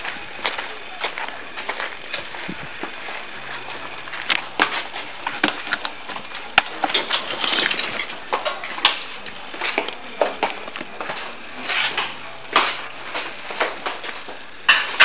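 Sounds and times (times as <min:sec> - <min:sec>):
footsteps on hard floor: 0:00.0 - 0:07.0, 0:08.1 - 0:15.0.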